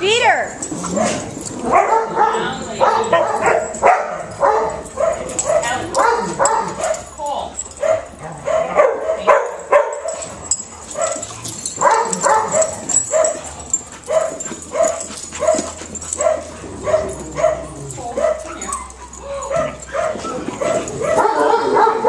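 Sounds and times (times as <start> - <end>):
dog barking and yipping: 0.8 - 22.0.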